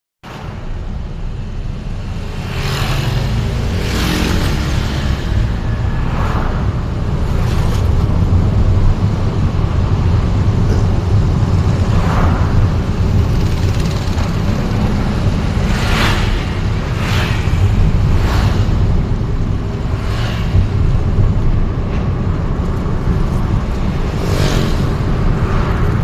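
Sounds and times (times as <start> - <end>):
engine and road rumble: 0.2 - 26.0
vehicles rushing past: 0.3 - 26.0.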